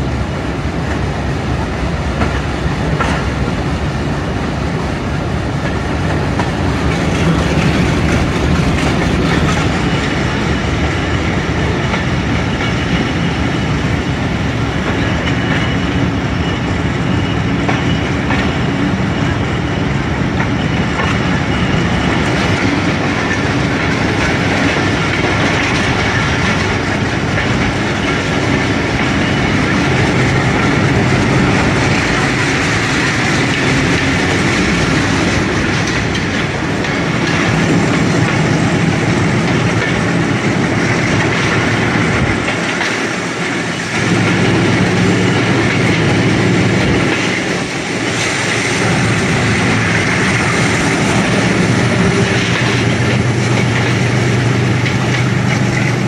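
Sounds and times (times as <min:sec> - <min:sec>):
locomotive engine drone: 0:00.0 - 0:56.0
train wheels clattering: 0:00.0 - 0:56.0.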